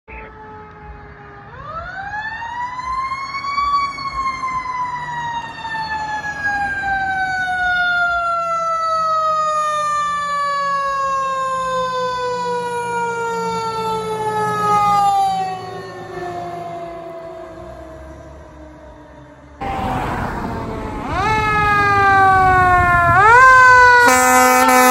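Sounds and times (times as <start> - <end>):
mechanical siren wailing: 0.1 - 24.9
fire truck engine rumbling: 0.5 - 24.9.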